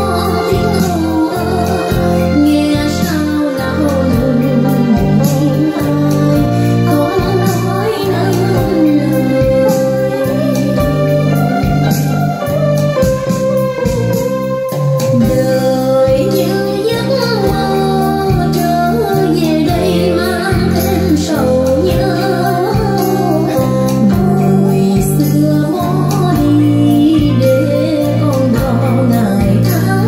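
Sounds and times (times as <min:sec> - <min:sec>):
song with female singer: 0:00.0 - 0:30.0.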